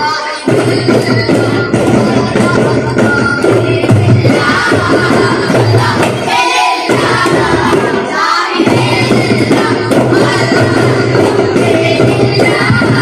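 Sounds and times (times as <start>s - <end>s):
chorus of boys singing: 0.0s - 13.0s
frame drums beating: 0.0s - 13.0s.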